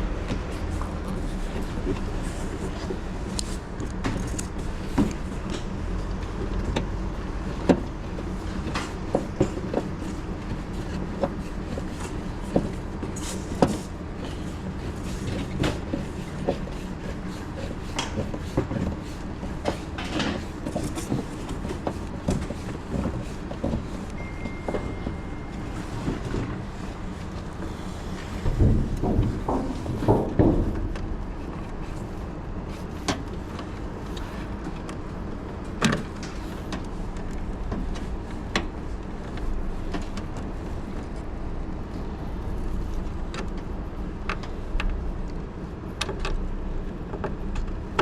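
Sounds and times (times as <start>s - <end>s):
low background rumble: 0.0s - 47.6s.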